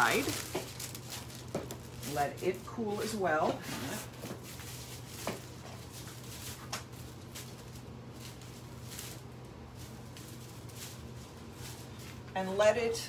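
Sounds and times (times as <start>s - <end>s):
rustling of handled objects: 0.0s - 12.4s.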